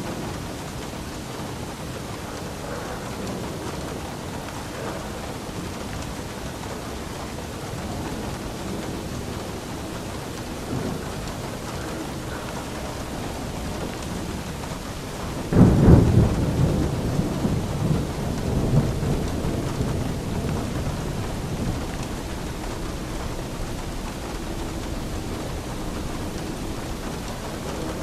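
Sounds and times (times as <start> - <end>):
steady rain: 0.0 - 28.0
thunderclap rumbling: 0.0 - 28.0.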